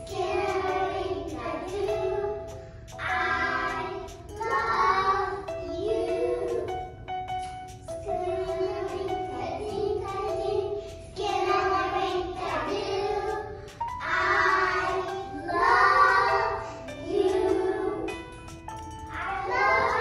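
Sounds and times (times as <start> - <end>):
children singing: 0.0 - 7.0, 8.0 - 18.4, 19.2 - 20.0
instrumental backing track: 0.0 - 20.0.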